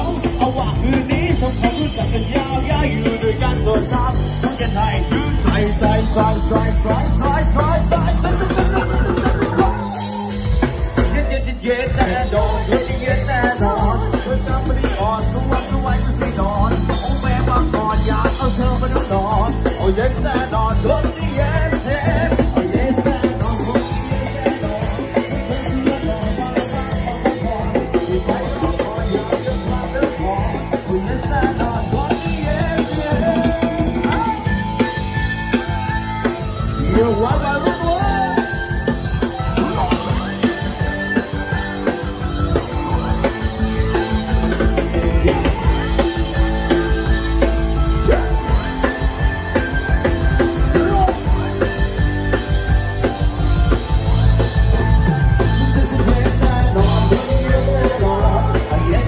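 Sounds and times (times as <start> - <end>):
drum kit: 0.0 - 59.0
live rock band playing: 0.0 - 59.0
person singing: 0.0 - 59.0.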